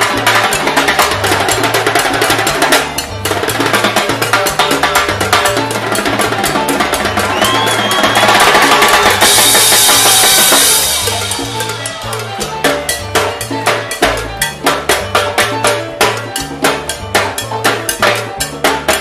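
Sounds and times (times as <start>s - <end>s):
salsa band hit with cymbals: 0.0s - 19.0s.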